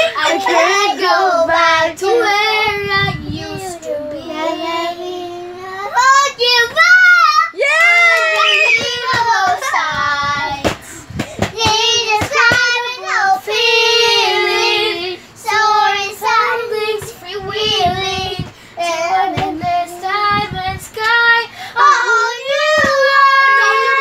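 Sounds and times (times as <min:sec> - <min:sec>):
young children singing: 0:00.0 - 0:07.6, 0:08.4 - 0:10.8, 0:11.5 - 0:24.0.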